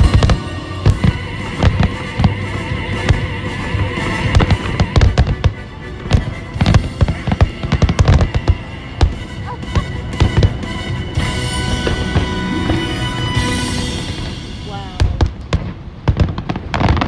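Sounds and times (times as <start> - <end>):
orchestral music: 0.0 - 15.6
fireworks booming and crackling: 0.0 - 17.0.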